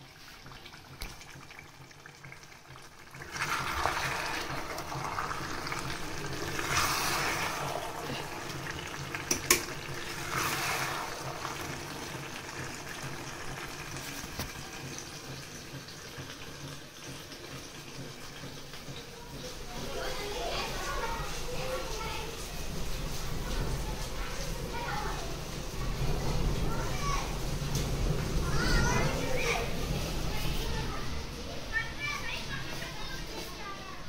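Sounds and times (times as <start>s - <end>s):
ladle stirring sizzling vegetables: 0.0s - 34.0s.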